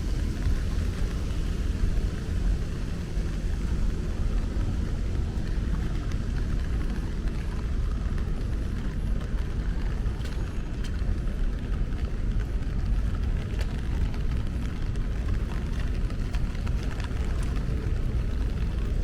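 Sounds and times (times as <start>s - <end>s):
low rumble of traffic: 0.0s - 19.0s
faint raindrop ticks: 0.1s - 19.0s.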